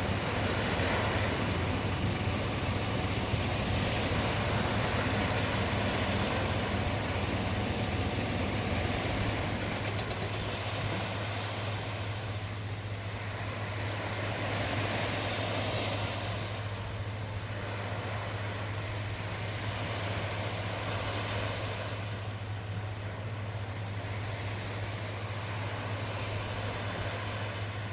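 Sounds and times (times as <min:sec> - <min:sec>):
sea surf washing in: 0:00.0 - 0:27.9
steady low hum: 0:00.0 - 0:27.9.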